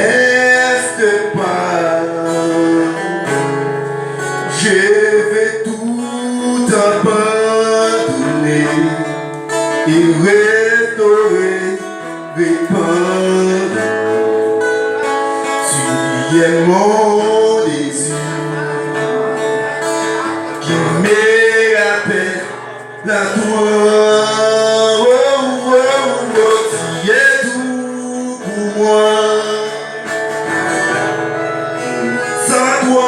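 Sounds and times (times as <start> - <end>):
guitar: 0.0 - 33.0
man singing: 0.0 - 33.0.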